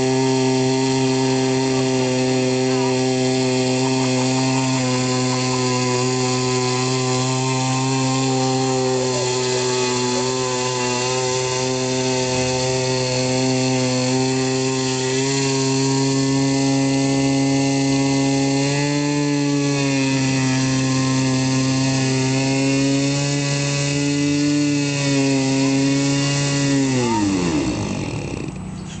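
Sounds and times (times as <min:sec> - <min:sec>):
model airboat motor and propeller: 0:00.0 - 0:29.0.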